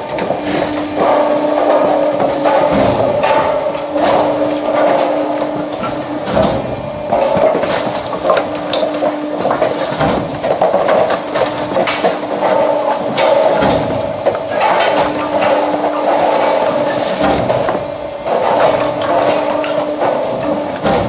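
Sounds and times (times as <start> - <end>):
firewood machine humming: 0.0 - 21.0.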